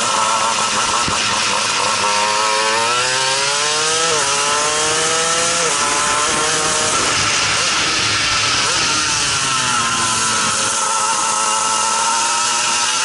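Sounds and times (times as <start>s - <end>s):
kart engine accelerating: 0.0s - 13.0s.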